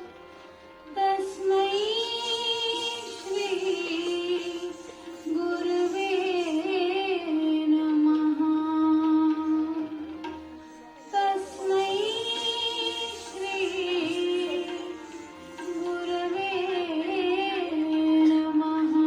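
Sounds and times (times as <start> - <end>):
instrumental accompaniment: 0.0 - 19.0.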